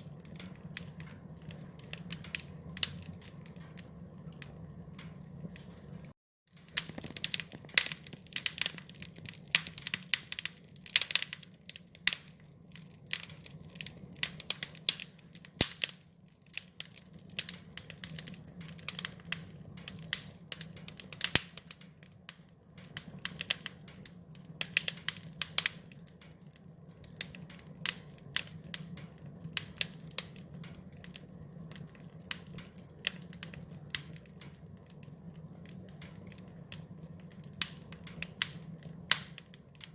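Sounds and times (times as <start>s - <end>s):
sharp pops of fire: 0.0s - 5.8s, 6.5s - 39.9s
low rumble of flames: 0.0s - 39.9s
wood fire crackling: 0.0s - 39.9s.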